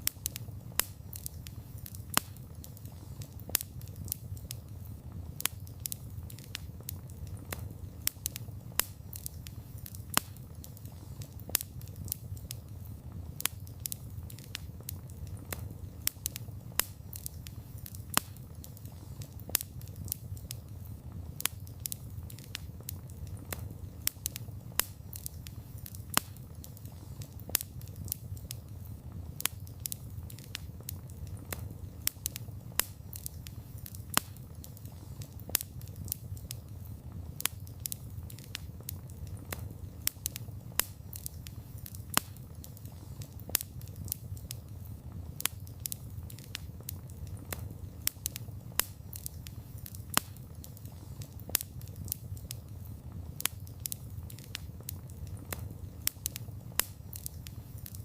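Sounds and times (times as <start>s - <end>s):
burning wood crackling and popping: 0.0s - 58.0s
campfire flames rumbling: 0.0s - 58.0s.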